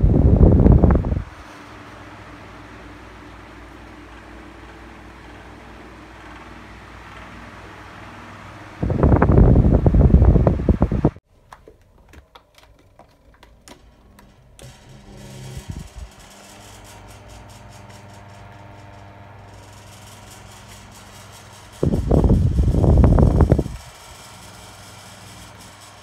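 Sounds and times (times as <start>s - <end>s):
electric fan motor humming: 0.0s - 11.2s, 12.6s - 26.0s
fan airflow buffeting microphone: 0.0s - 11.2s, 12.0s - 26.0s.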